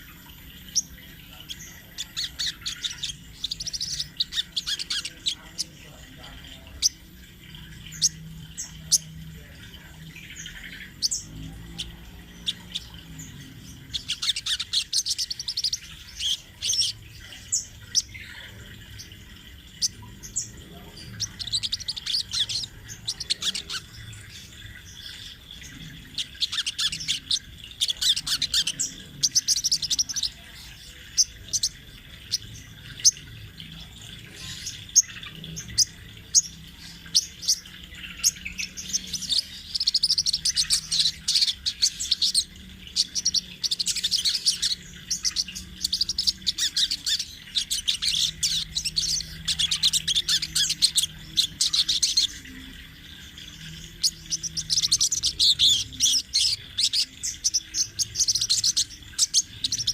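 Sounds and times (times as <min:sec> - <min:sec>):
small bird twittering chirps: 0:00.0 - 0:59.9.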